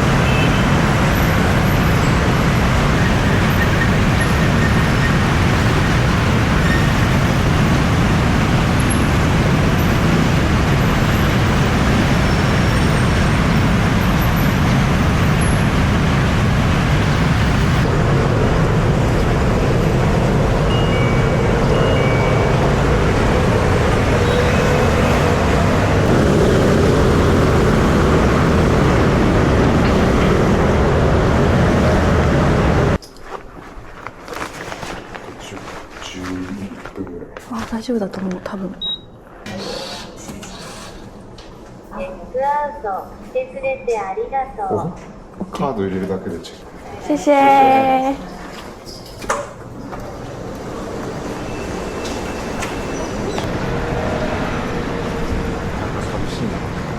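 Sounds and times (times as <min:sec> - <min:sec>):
heavy road traffic: 0:00.0 - 0:33.0, 0:39.4 - 0:56.9.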